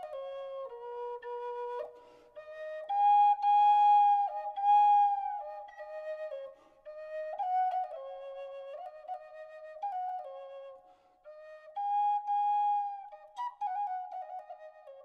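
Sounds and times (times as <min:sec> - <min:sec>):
slow flute melody: 0:00.0 - 0:15.0.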